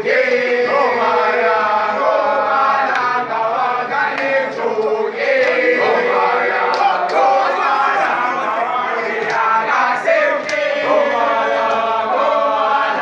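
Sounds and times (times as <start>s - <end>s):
boys singing unaccompanied chant: 0.0s - 13.0s.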